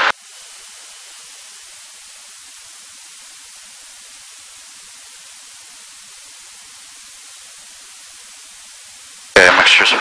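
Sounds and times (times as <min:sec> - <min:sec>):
intercom hiss: 0:00.0 - 0:10.0.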